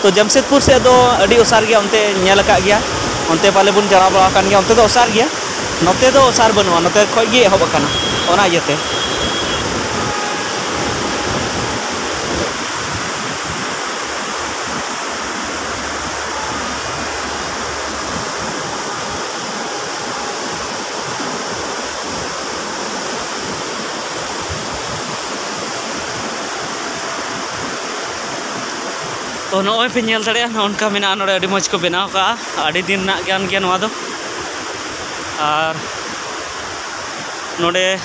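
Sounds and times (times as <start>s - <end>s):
river rushing over rocks: 0.0s - 38.0s.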